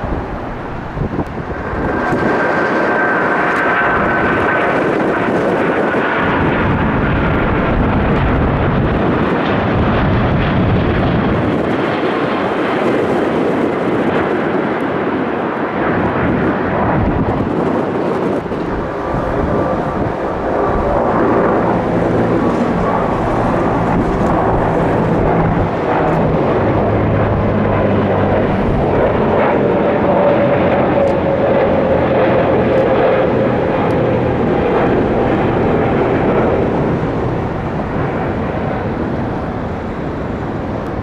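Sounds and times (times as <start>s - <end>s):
jet airliner engine rumble: 0.0s - 41.0s.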